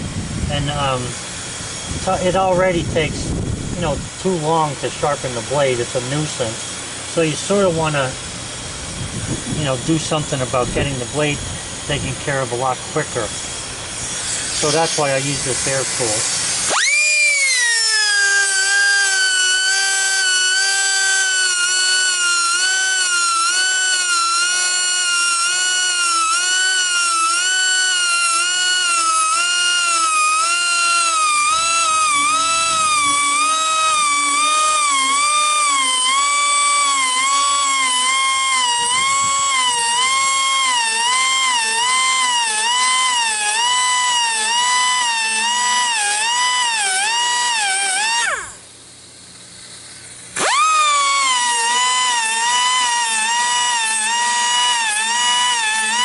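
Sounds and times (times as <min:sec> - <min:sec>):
pneumatic grinder whining: 0:00.0 - 0:56.0.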